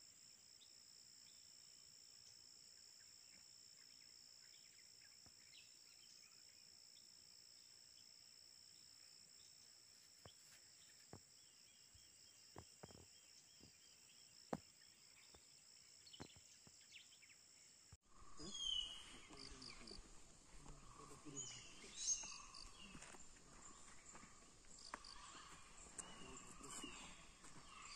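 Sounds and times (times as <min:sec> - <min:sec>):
insect chorus: 0:00.0 - 0:27.9.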